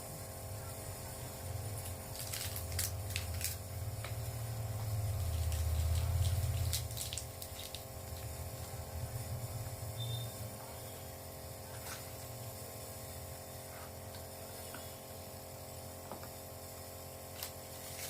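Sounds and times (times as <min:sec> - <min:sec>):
nebulizer compressor humming: 0:00.0 - 0:18.0.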